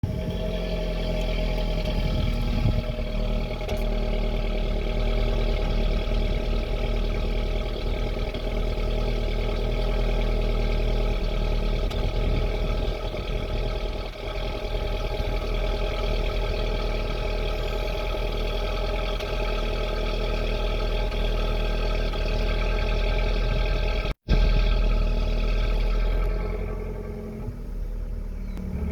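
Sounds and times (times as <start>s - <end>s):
car engine idling and stumbling: 0.0s - 28.9s.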